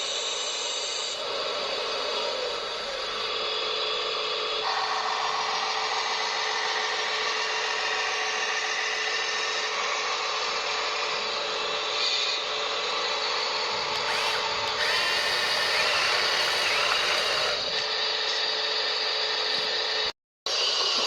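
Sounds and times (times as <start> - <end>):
model motors whining: 1.0 - 20.1.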